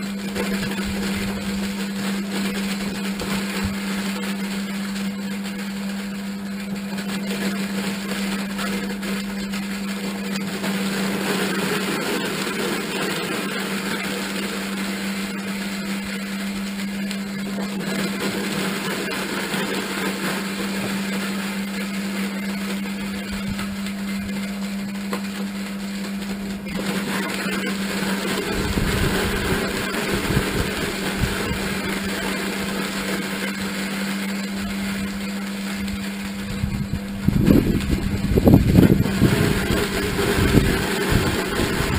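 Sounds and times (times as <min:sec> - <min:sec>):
electric motor humming and churning: 0:00.0 - 0:41.9.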